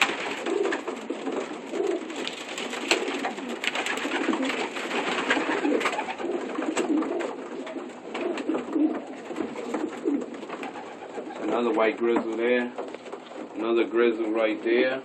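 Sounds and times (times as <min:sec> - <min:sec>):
pigeons cooing: 0:00.0 - 0:14.6.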